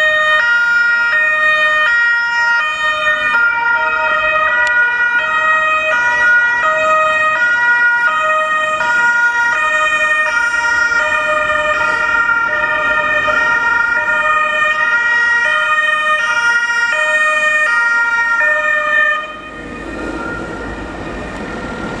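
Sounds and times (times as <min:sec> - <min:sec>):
road and engine noise: 0:00.0 - 0:22.0
two-tone police sirens: 0:00.0 - 0:22.0.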